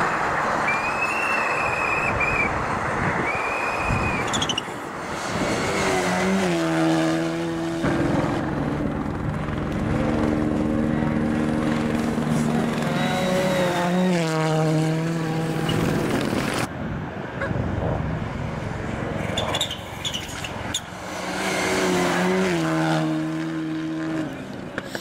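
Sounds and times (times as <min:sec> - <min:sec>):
rally car engines at full throttle: 0:00.0 - 0:25.0.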